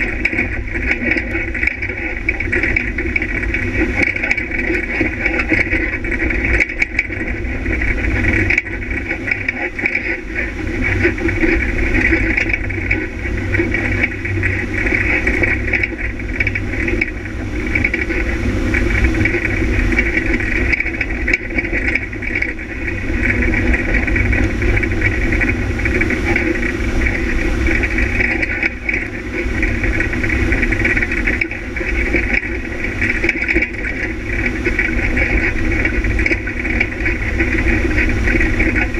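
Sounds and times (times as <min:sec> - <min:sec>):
rally car engine under load: 0:00.0 - 0:38.9
rattling from rough ground: 0:00.0 - 0:38.9.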